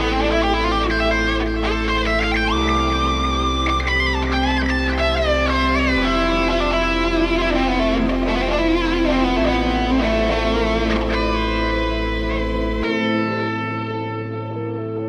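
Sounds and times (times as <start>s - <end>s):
guitar-led background music: 0.0s - 15.0s.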